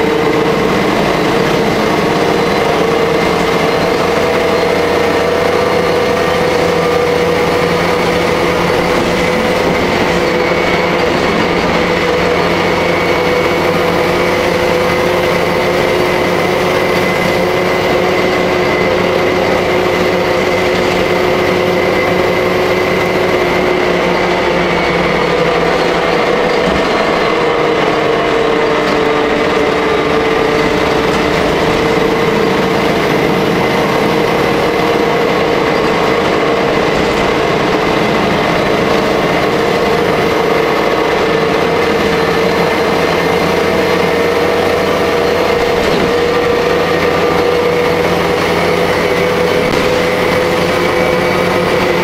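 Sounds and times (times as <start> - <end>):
bus engine drone with whine: 0.0 - 52.0
road rumble: 0.0 - 52.0.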